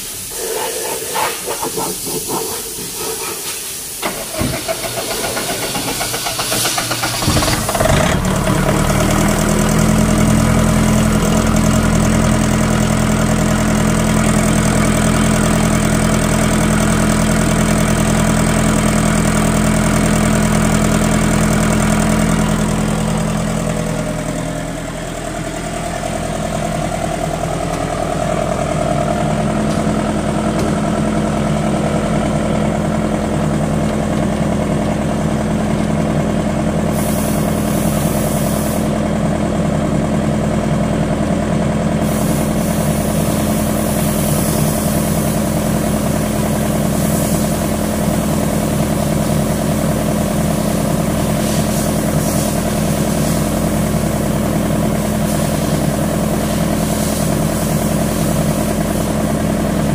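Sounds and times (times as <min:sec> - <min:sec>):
diesel generator engine running: 0:00.0 - 0:59.9.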